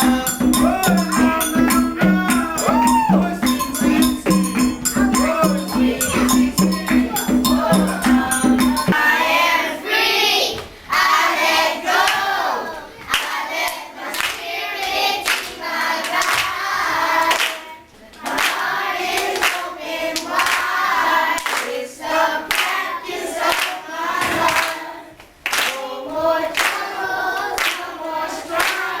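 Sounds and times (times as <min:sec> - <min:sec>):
rhythmic hand clapping: 0:00.0 - 0:09.0, 0:13.1 - 0:29.0
group of voices singing: 0:00.0 - 0:29.0.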